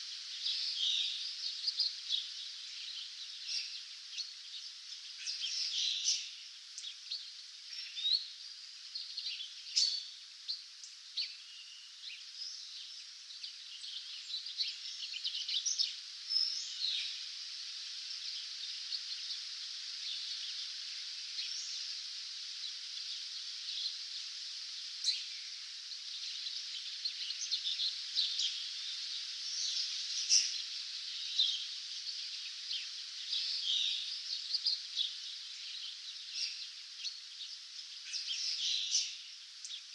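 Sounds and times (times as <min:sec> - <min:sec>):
songbirds chirping and trilling: 0:00.0 - 0:39.9
steady high hiss: 0:00.0 - 0:39.9.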